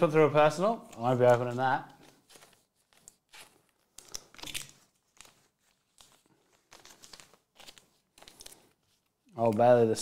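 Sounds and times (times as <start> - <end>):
trading cards shuffling: 0.8 - 10.0.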